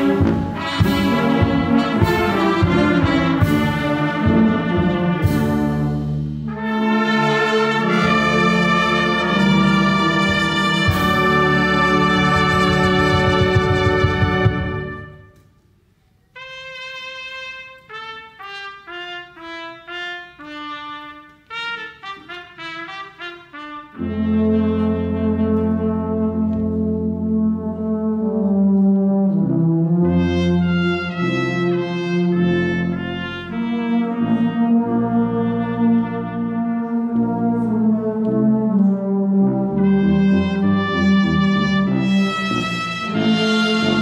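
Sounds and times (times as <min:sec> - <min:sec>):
brass band playing: 0:00.0 - 0:15.5, 0:16.3 - 0:44.0.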